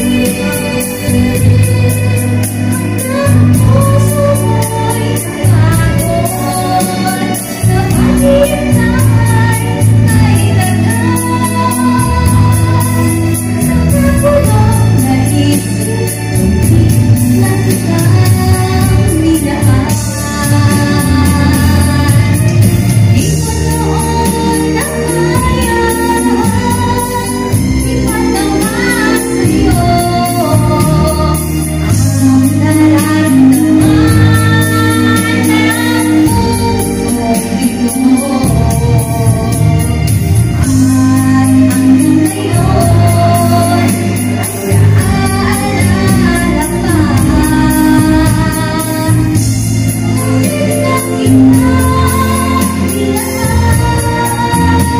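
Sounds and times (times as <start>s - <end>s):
instrumental accompaniment: 0.0s - 54.9s
woman singing into microphone: 0.0s - 54.9s.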